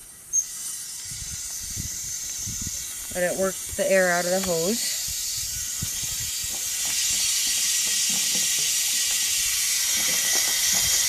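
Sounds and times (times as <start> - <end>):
hose spitting air and water: 0.3 - 11.0.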